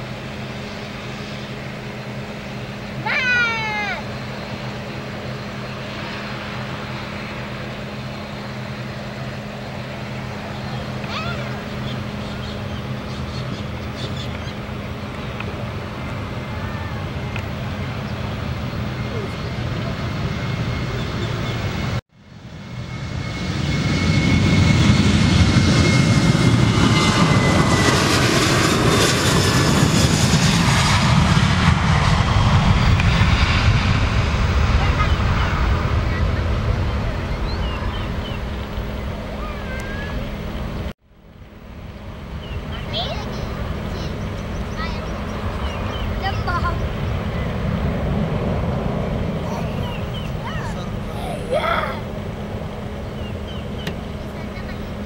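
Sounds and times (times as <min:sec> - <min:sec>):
distant jet engines running: 0:00.0 - 0:55.0
high fan whine: 0:00.0 - 0:55.0.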